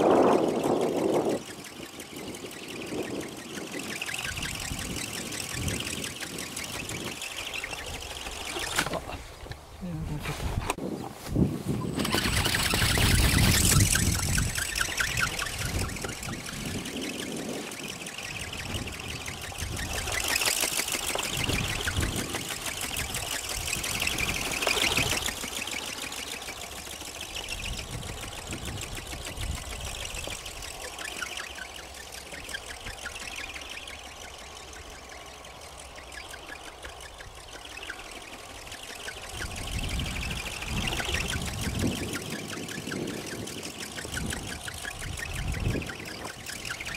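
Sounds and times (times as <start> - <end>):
buzzing flutter of flapping wings: 0.0 - 46.9
wind buffeting microphone: 0.0 - 46.9.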